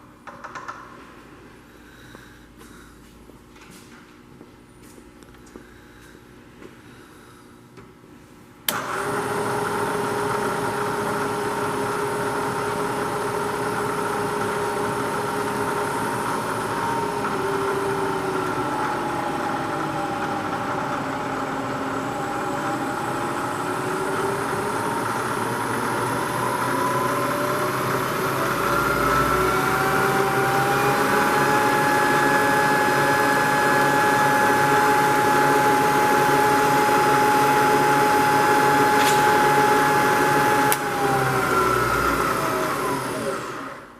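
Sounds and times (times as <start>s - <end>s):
milling machine motor running: 8.7s - 43.9s.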